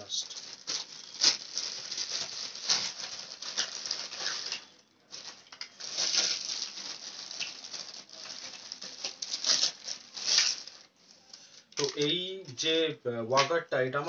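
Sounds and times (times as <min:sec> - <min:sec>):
plastic bag crinkling and rustling: 0:00.0 - 0:12.6.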